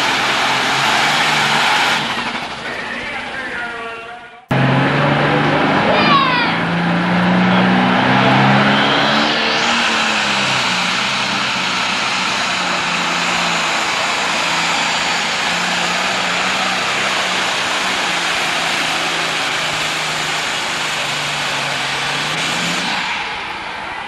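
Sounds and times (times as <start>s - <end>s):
diesel engine at high revs: 0.0s - 24.0s.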